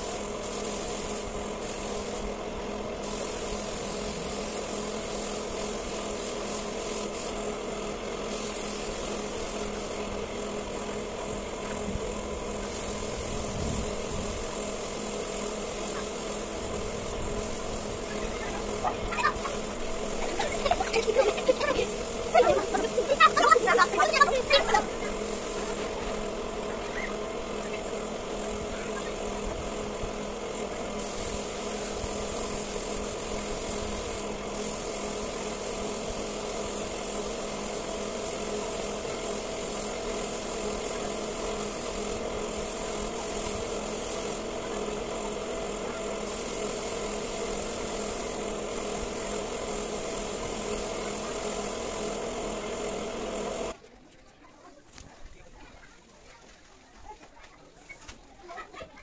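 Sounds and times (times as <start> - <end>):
spray gun hissing: 0.0 - 53.8
steady hum: 0.0 - 53.8.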